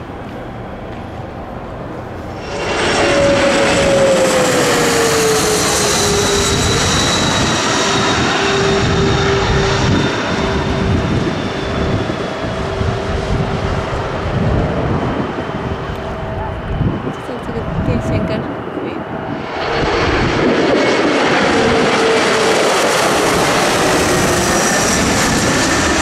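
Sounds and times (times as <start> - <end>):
jet passing low overhead: 0.0 - 26.0.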